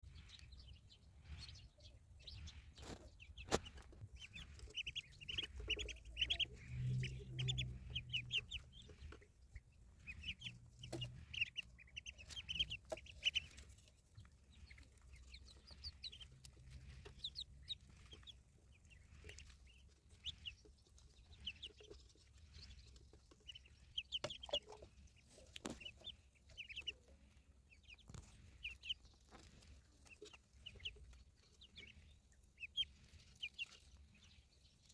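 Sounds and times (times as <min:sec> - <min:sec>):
ducklings peeping: 0:00.0 - 0:34.9.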